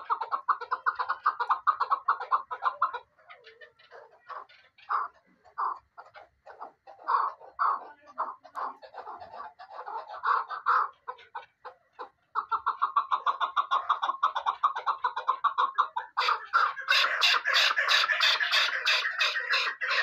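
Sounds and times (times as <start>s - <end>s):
partridge calling: 0.0s - 20.0s.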